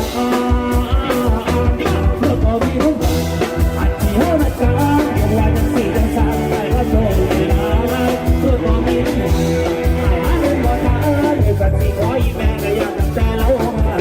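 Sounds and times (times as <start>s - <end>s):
heavy bass: 0.0s - 14.0s
live band playing dance music: 0.0s - 14.0s
person singing: 0.0s - 14.0s
steady drum beat: 0.0s - 14.0s.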